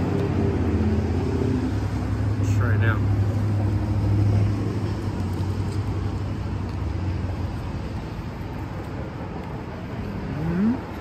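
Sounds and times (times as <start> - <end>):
road traffic noise: 0.0 - 11.0
vehicle engine low hum: 0.0 - 11.0.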